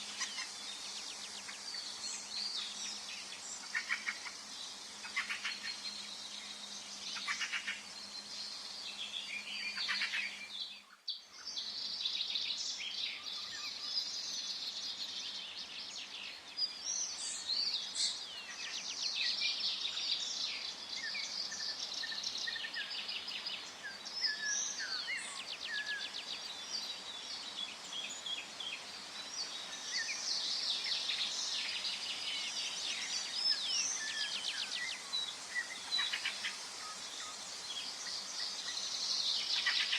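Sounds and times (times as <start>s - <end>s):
birds chirping and trilling: 0.0s - 39.9s
soft background hiss: 0.0s - 39.9s.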